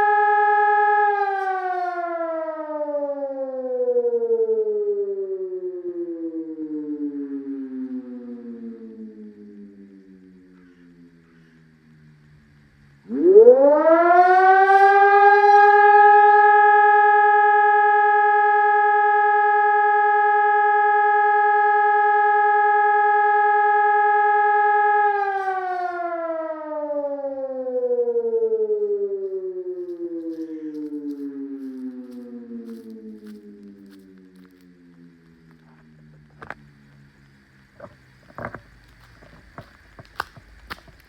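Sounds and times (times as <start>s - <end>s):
civil defence siren winding: 0.0s - 39.1s.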